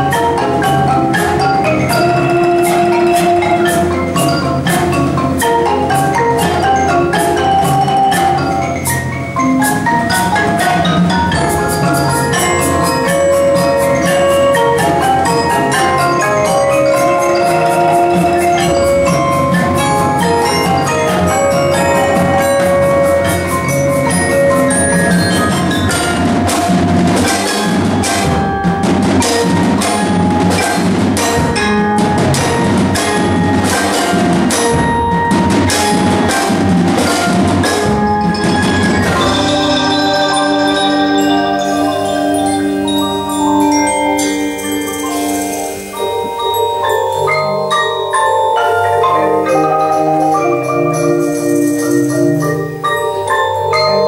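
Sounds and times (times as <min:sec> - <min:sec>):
marimbas playing rapid notes: 0:00.0 - 0:54.0
sharp percussion strokes: 0:00.0 - 0:54.0.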